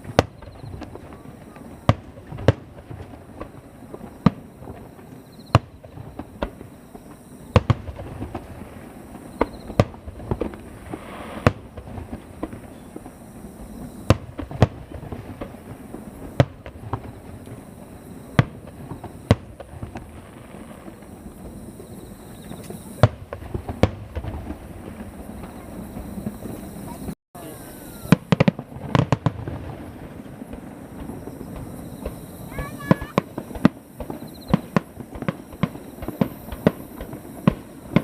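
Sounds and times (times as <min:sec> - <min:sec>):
distant fireworks bangs: 0:00.0 - 0:38.0.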